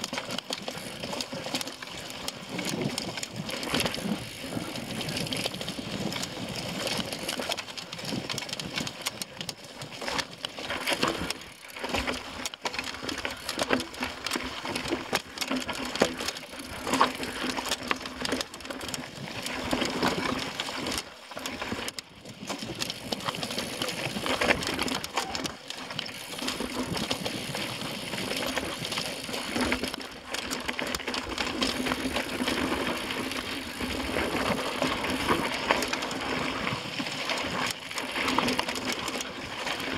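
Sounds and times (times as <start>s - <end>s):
bike rattling and knocking: 0.0s - 39.9s.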